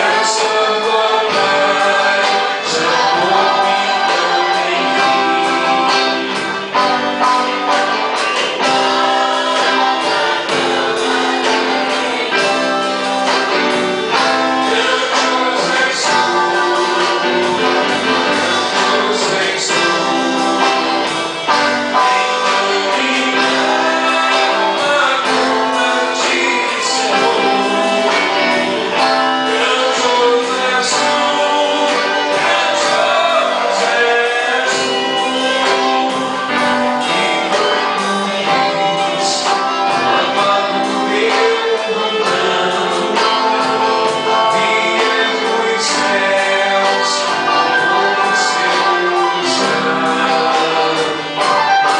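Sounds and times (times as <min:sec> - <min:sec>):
band playing worship song: 0:00.0 - 0:51.9
voices singing: 0:00.0 - 0:51.9.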